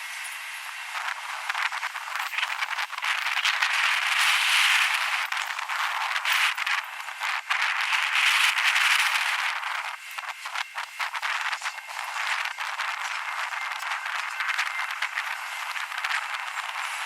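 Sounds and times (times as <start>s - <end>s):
wind rushing over microphone: 0.8s - 17.0s.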